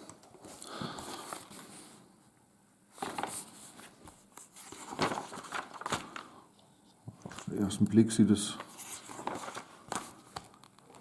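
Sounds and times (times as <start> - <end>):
paper pages rustling: 0.0 - 2.0, 2.9 - 6.4, 7.1 - 11.0.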